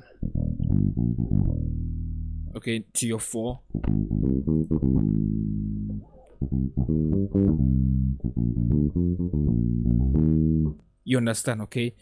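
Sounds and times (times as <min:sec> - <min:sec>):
electric bass guitar notes: 0:00.0 - 0:02.6, 0:03.6 - 0:10.8.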